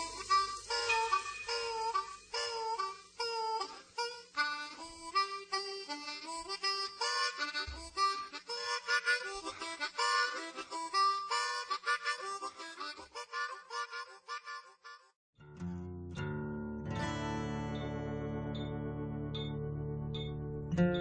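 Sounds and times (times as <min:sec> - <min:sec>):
instrumental music: 0:00.0 - 0:21.0.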